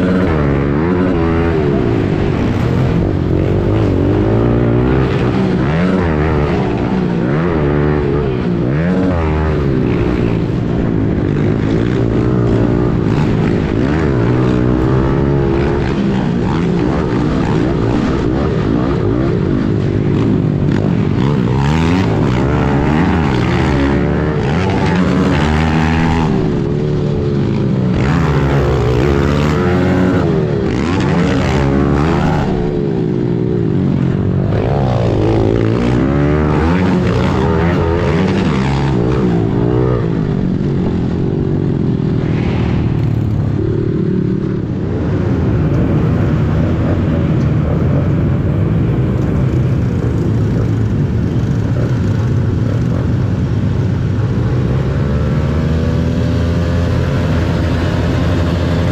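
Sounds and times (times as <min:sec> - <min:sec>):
pit bike engine revving: 0:00.0 - 0:58.9.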